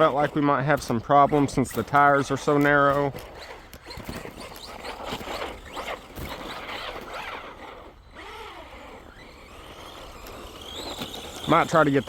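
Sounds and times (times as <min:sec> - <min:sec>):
electric toy truck motor whining: 0:01.2 - 0:12.0.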